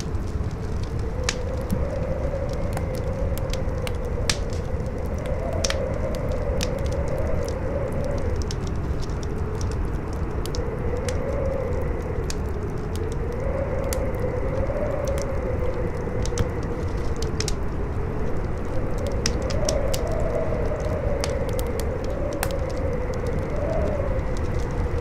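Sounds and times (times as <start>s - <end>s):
campfire crackling and popping: 0.0s - 25.0s
howling wind: 0.0s - 25.0s.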